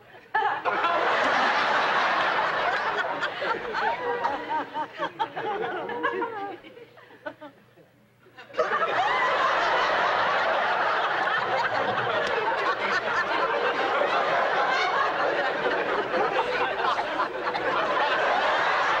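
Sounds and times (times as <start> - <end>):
audience laughing: 0.3 - 19.0.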